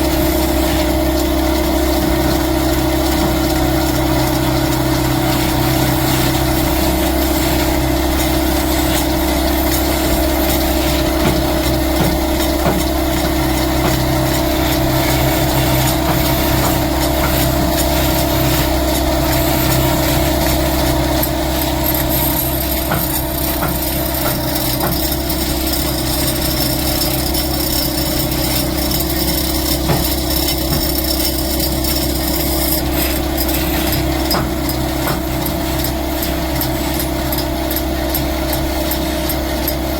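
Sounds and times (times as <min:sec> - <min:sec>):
light woodworking noise: 0:00.0 - 0:39.9
woodworking machine motor humming: 0:00.0 - 0:39.9.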